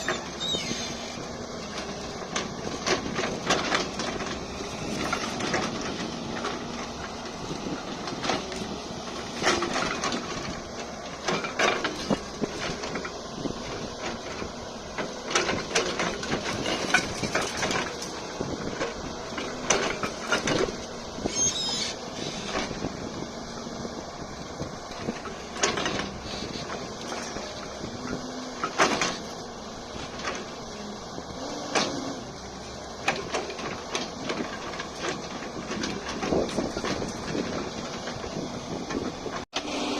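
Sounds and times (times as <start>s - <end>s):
excavator clanks and knocks: 0.0s - 39.9s
excavator engine running: 0.0s - 39.9s.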